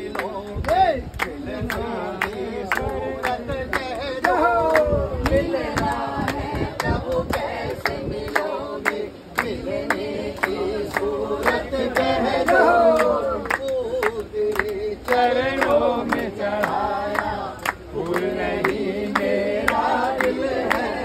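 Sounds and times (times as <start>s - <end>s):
group singing devotional song: 0.0s - 21.0s
hand clapping on the beat: 0.0s - 21.0s.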